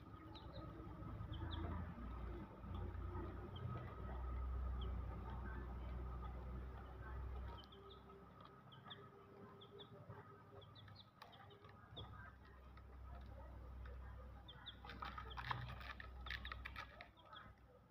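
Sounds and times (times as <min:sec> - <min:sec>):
chicks pecking on plastic: 0:00.0 - 0:17.9
chicks peeping: 0:00.0 - 0:17.9.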